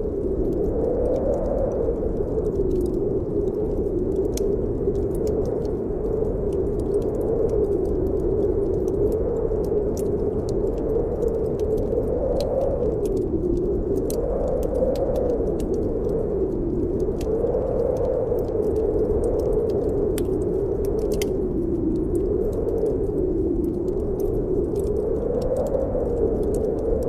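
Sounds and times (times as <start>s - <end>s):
wind howling: 0.0s - 27.0s
wood fire crackling: 0.0s - 27.0s.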